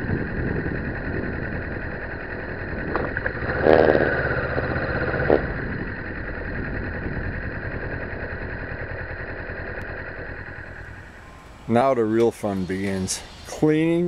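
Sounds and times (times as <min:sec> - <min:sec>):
motorcycle engine running: 0:00.0 - 0:12.5.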